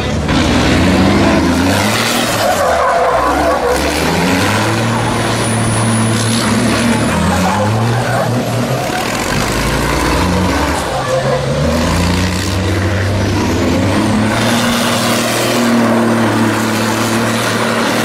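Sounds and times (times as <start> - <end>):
racing truck engine revving: 0.0 - 18.0.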